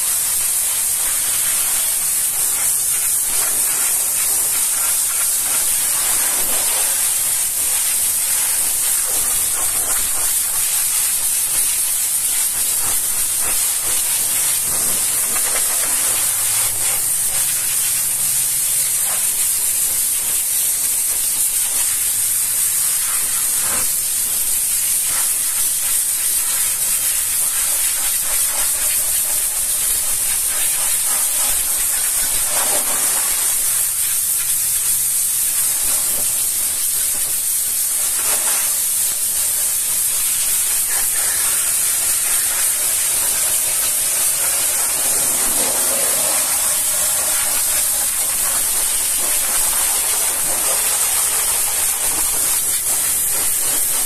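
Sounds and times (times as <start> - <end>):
pressure washer jet hissing: 0.0 - 54.0.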